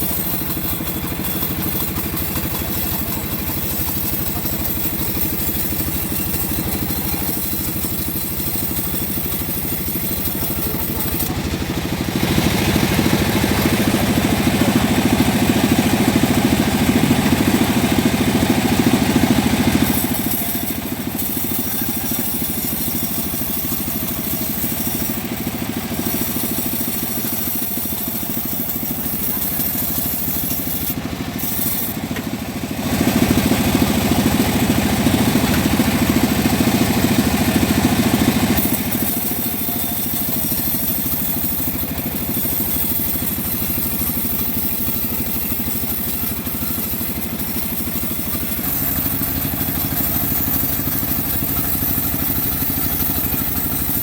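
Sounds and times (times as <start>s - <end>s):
engine-driven bandsaw mill running: 0.0s - 54.0s.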